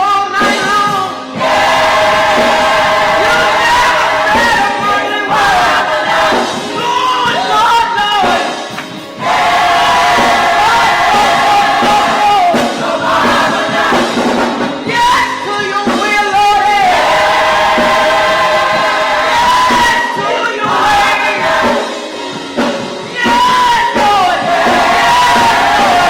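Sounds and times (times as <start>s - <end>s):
choir singing gospel: 0.0s - 26.0s.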